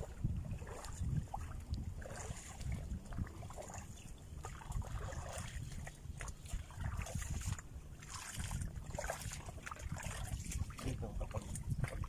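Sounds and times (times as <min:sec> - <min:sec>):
water lapping on rocks: 0:00.0 - 0:12.0
wind buffeting the microphone: 0:00.0 - 0:12.0.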